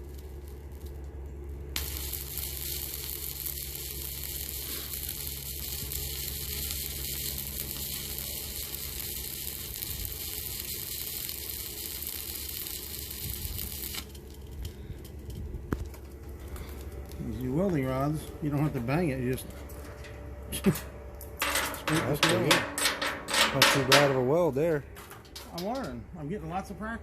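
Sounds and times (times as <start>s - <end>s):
welding arc sizzling: 0.0s - 26.8s.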